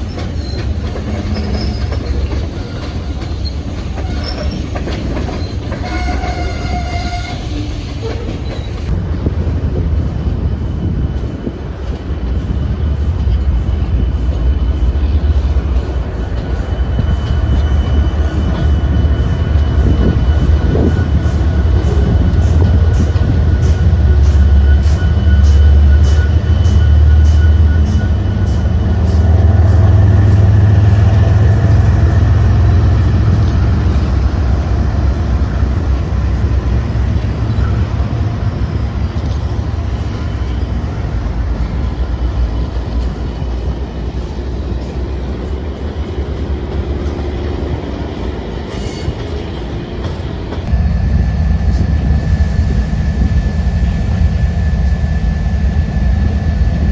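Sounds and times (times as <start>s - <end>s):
train rumbling past: 0.0s - 56.9s.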